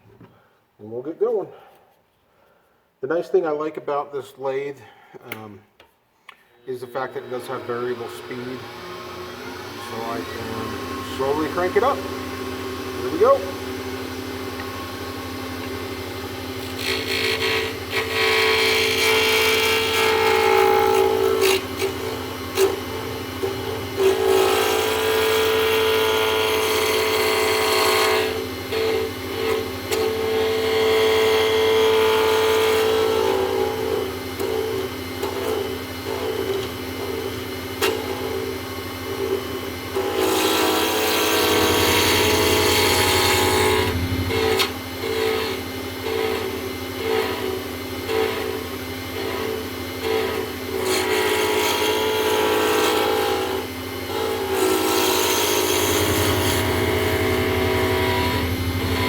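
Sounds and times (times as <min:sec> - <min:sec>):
lathe motor humming: 0:07.0 - 0:59.0
turning tool cutting acrylic: 0:07.0 - 0:59.0.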